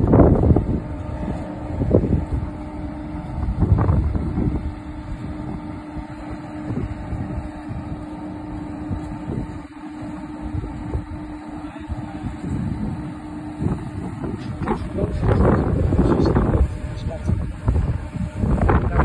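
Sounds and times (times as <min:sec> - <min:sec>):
crane engine running: 0:00.0 - 0:19.0
wind buffeting microphone: 0:00.0 - 0:19.0.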